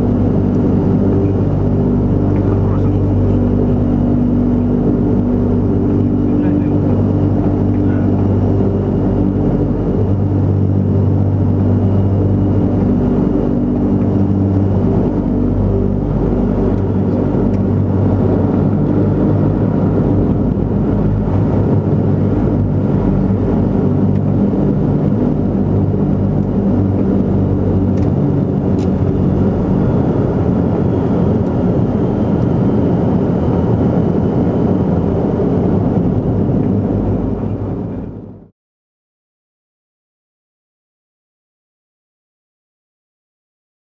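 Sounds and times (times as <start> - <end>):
turboprop engines droning: 0.0 - 38.5.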